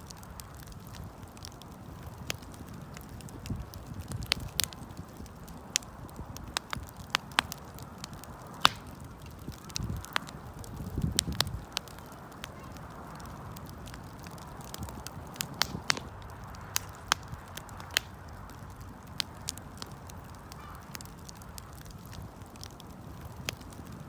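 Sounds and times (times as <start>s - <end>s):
burning wood popping and crackling: 0.0s - 24.0s
hiss of bonfire flames: 0.0s - 24.0s.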